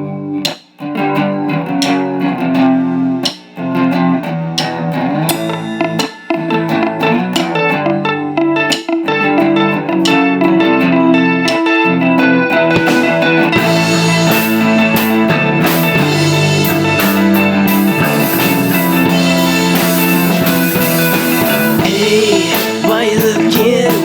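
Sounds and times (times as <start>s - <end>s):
electric guitar chords: 0.0s - 24.0s
drum kit: 0.4s - 24.0s.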